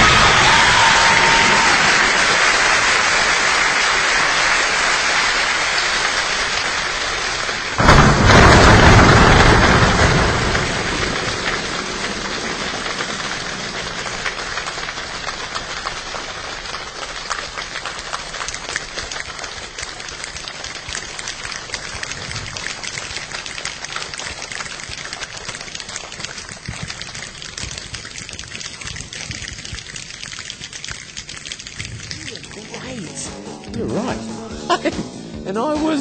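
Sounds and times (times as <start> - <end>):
patter of raindrops: 0.0 - 34.2
rain hissing: 0.0 - 35.3.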